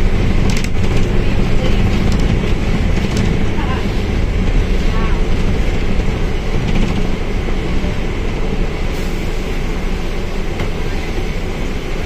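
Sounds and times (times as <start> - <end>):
bus engine and running noise: 0.0 - 12.0.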